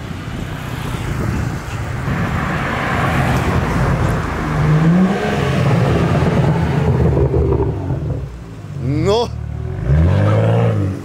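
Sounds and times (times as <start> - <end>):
car engine rumbling past: 0.6 - 11.0.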